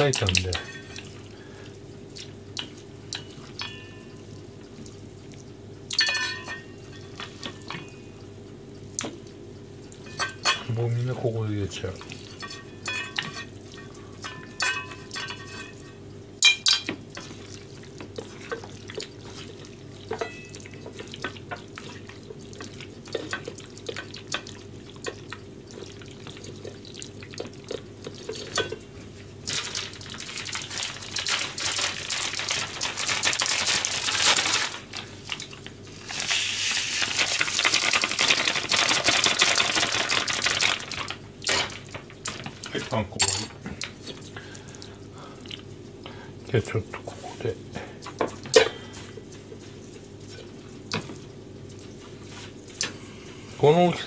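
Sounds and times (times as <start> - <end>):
wet squelching of mixing: 0.0 - 54.0.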